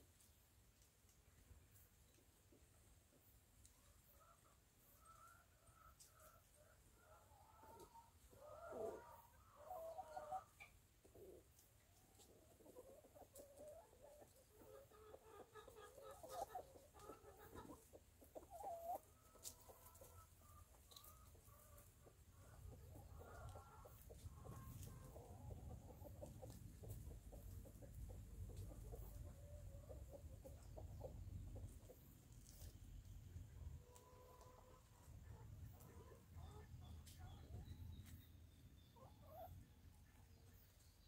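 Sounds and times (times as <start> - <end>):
chickens clucking: 0.1 - 41.0.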